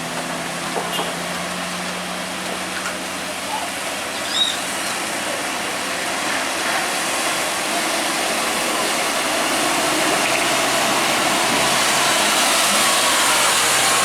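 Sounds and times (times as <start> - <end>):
low engine note: 0.0 - 14.0
truck rushing on road: 0.0 - 14.0.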